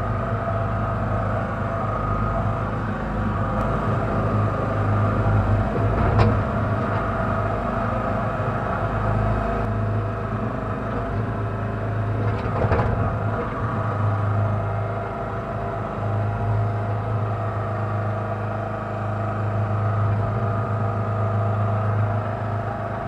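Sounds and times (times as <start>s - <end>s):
backhoe engine running: 0.0s - 23.0s.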